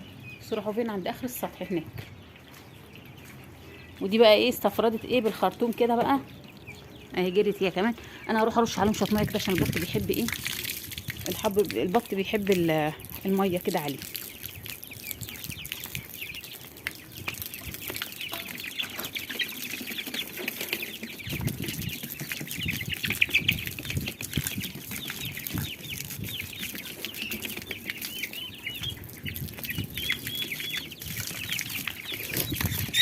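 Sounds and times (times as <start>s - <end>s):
chicks and ducklings peeping: 0.0s - 33.0s.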